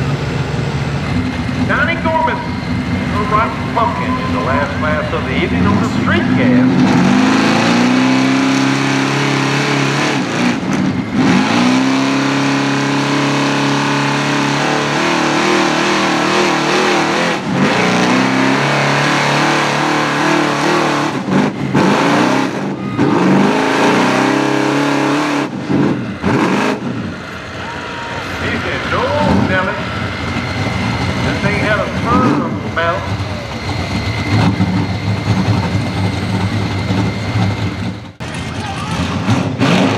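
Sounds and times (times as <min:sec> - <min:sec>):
truck engine at full throttle: 0:00.0 - 0:39.9.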